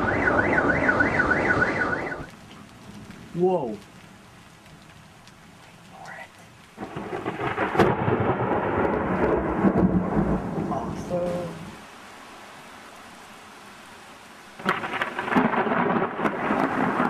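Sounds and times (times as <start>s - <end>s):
thunder rumble and crack: 0.0s - 4.1s, 4.7s - 11.8s, 14.6s - 17.0s.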